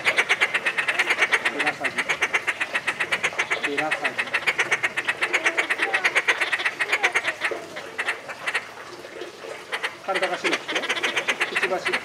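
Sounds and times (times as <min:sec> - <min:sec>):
terns clucking calls: 0:00.0 - 0:12.0.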